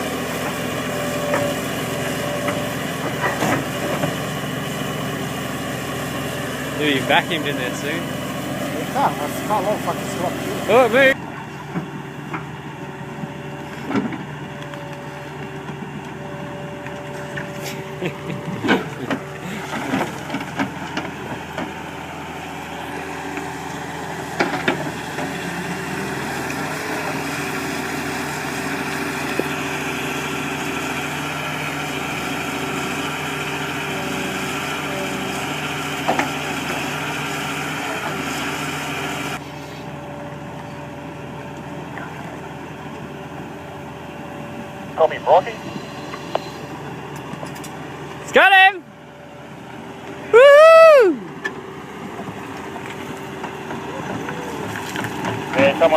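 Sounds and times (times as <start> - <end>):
heavy machine engine running: 0.0 - 55.9.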